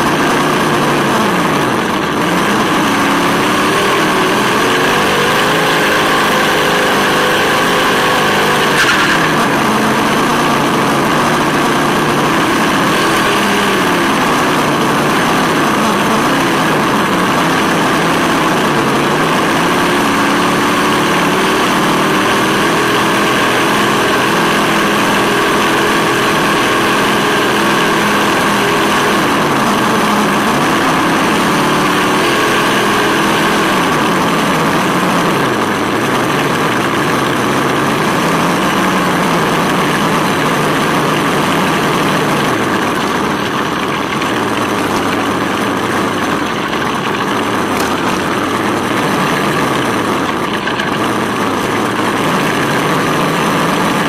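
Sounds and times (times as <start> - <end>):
high steady whine: 0.0 - 54.0
simulated engine from speaker: 0.0 - 54.0.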